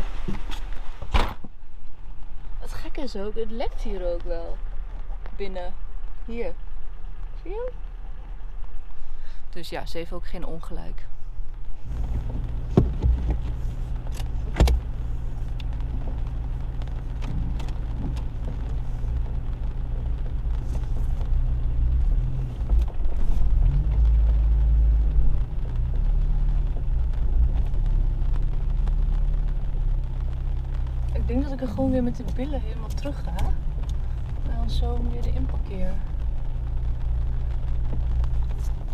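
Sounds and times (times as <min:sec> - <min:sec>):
car engine from inside cabin: 0:02.0 - 0:38.9.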